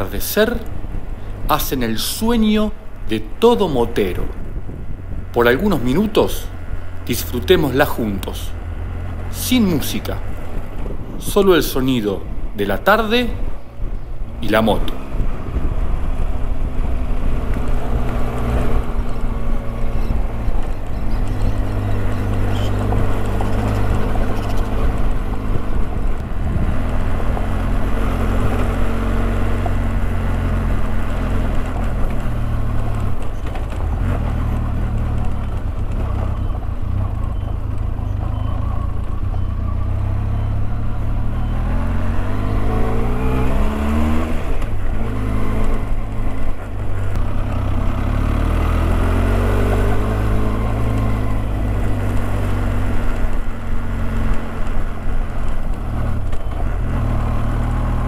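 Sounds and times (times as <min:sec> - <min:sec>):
road and wind noise: 0:00.0 - 0:58.0
motorcycle engine running: 0:03.6 - 0:11.4, 0:12.2 - 0:58.0.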